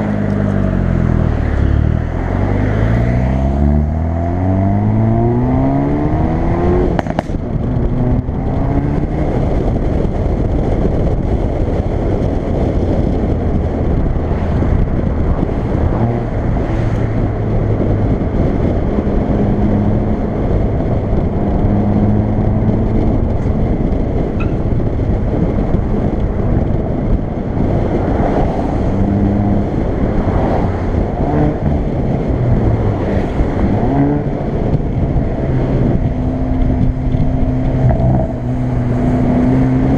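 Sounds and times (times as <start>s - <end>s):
car engine and exhaust: 0.0s - 39.9s
road noise: 0.0s - 39.9s
exhaust cracks: 6.8s - 39.9s.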